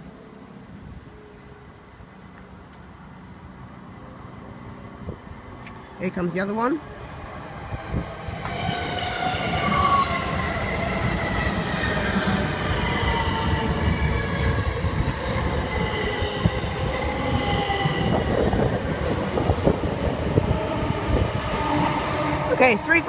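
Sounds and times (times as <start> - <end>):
electric train rumble and whine: 0.0 - 23.0.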